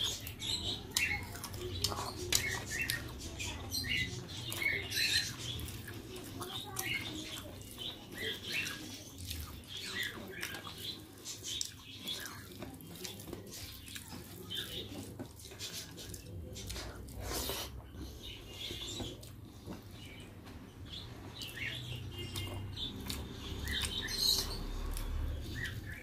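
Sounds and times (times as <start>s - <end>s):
wet chewing and lip-smacking: 0.0s - 20.1s, 21.4s - 26.0s.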